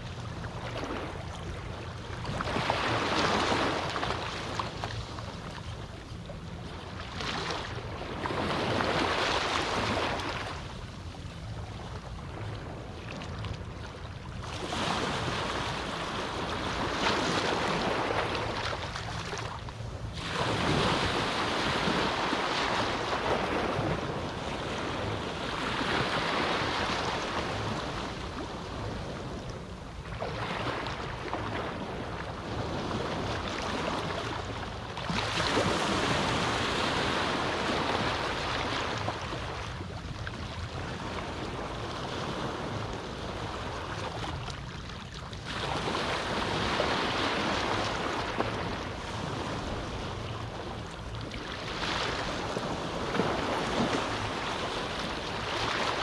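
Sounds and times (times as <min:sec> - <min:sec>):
sea waves washing on beach: 0:00.0 - 0:05.6, 0:14.4 - 0:56.0.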